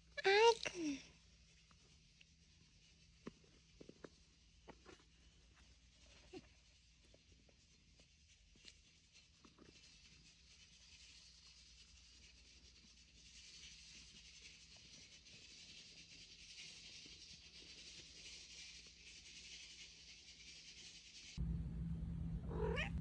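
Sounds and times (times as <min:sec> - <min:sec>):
hand rubbing cat fur: 0:01.3 - 0:21.4.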